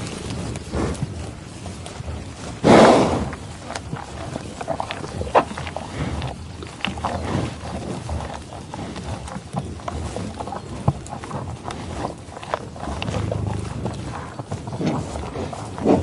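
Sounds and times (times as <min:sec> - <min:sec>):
animal sounds: 0:00.0 - 0:16.0.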